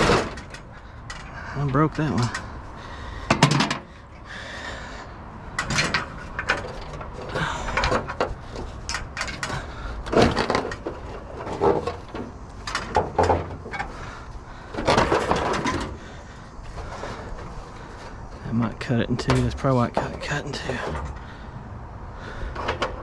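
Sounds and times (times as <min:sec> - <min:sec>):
scrap metal knocking and clattering: 0:00.0 - 0:02.6, 0:03.2 - 0:04.1, 0:05.4 - 0:21.4, 0:22.3 - 0:23.0.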